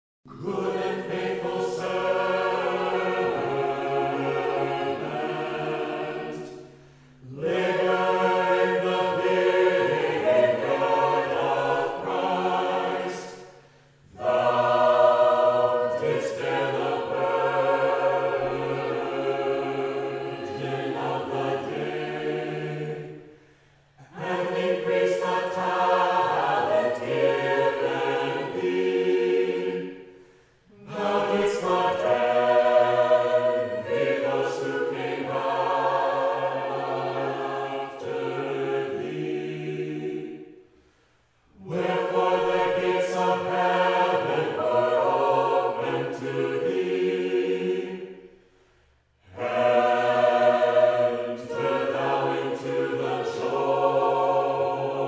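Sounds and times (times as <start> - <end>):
choir singing a cappella: 0.3 - 55.0.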